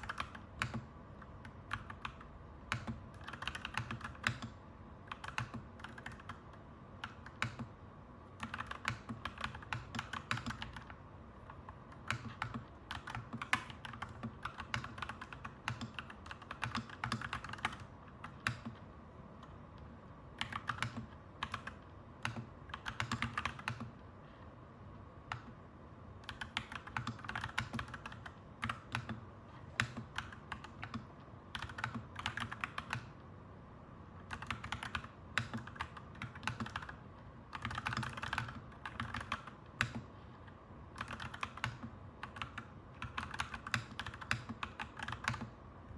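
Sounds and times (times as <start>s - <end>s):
mechanical keyboard typing: 0.0s - 24.0s, 25.3s - 25.6s, 26.2s - 33.2s, 34.2s - 45.6s
low background hum: 0.0s - 45.9s.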